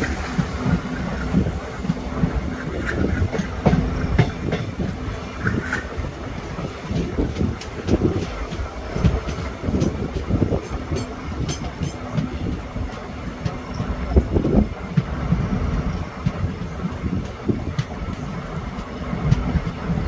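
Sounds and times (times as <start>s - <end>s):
train rumbling: 0.0s - 20.0s
wheels knocking and clattering: 0.0s - 20.0s.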